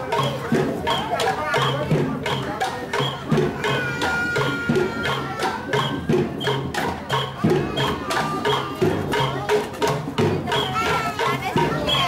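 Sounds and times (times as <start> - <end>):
bamboo tubes struck with sticks: 0.0 - 12.0
low drum-like beat: 0.0 - 12.0.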